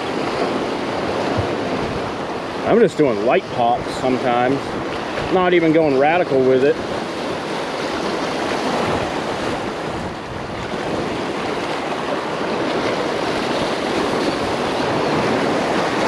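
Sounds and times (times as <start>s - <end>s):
surf breaking over rocks: 0.0s - 16.0s.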